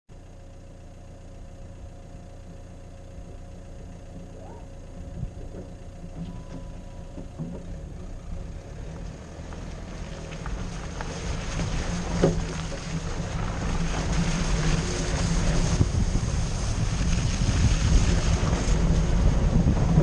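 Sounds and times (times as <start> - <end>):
diesel engine idling: 0.1 - 20.0.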